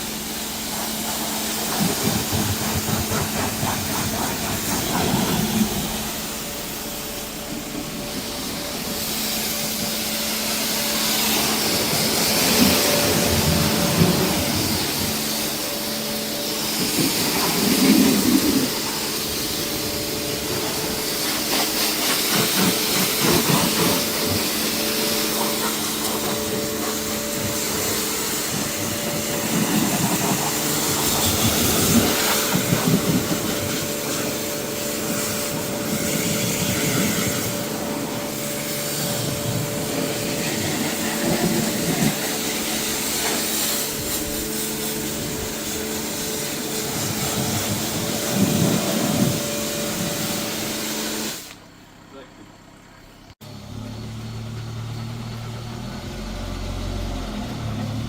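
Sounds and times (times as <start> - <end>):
water jet spraying on car: 0.0 - 51.7
pressure washer motor hum: 0.0 - 52.3.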